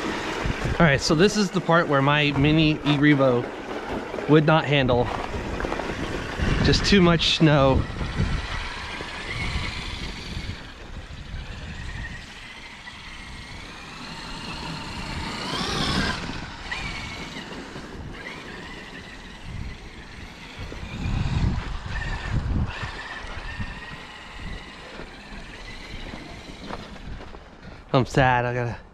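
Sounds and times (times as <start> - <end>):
electric motor whining: 0.0 - 27.6.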